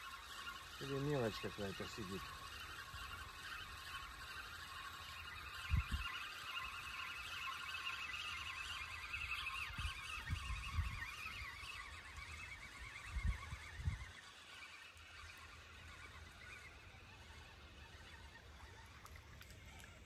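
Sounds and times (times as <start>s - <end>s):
chorus of warbling animal calls: 0.0s - 20.0s.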